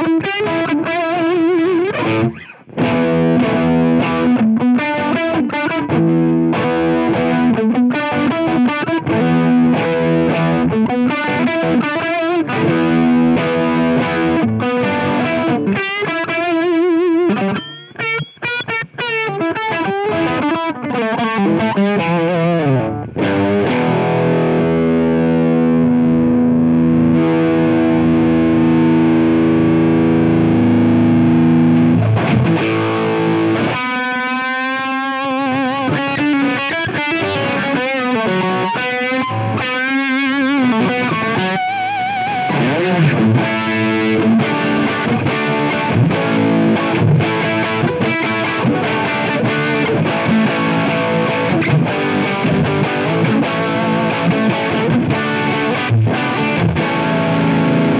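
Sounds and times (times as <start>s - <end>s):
distorted electric guitar: 0.0s - 57.9s.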